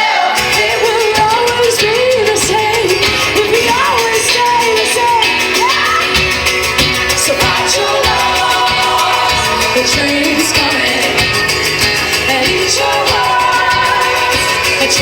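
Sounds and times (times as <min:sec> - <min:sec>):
live pop-rock band music: 0:00.0 - 0:15.0
person singing: 0:00.0 - 0:15.0.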